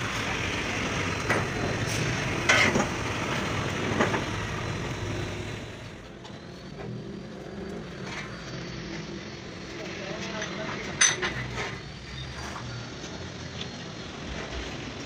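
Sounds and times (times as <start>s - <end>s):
workshop machine noise: 0.0s - 15.0s.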